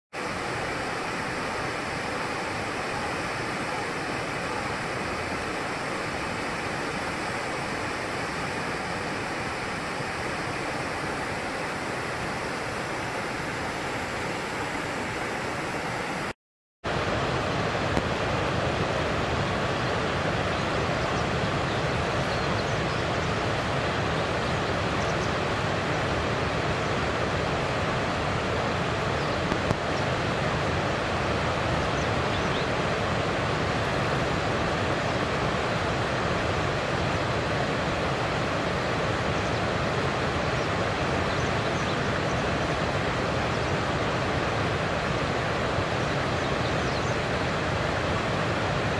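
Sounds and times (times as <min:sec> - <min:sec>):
waterfall rushing: 0:00.2 - 0:48.9.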